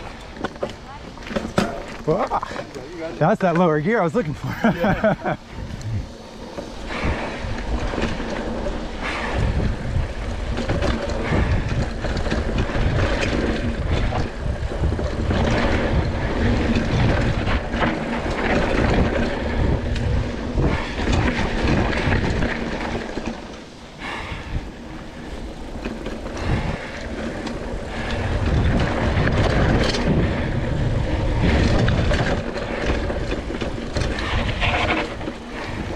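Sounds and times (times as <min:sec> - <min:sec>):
bike knocks and rattles: 0:00.0 - 0:35.9
bike tyres rumbling on dirt: 0:00.0 - 0:35.9
wind buffeting microphone: 0:00.0 - 0:35.9.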